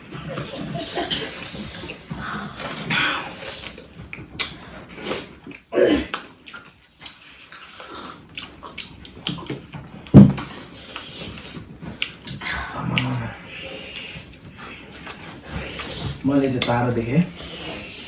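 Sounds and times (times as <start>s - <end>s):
wet chewing and smacking: 0.0s - 18.0s.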